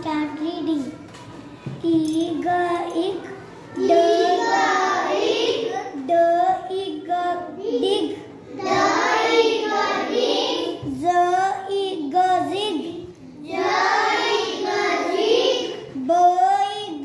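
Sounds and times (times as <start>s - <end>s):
child reading aloud: 0.0s - 17.0s.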